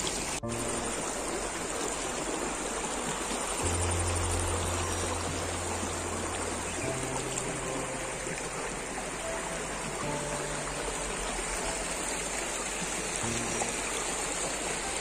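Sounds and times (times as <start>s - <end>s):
river flowing over stones: 0.0s - 15.0s
soft background music: 0.1s - 15.0s.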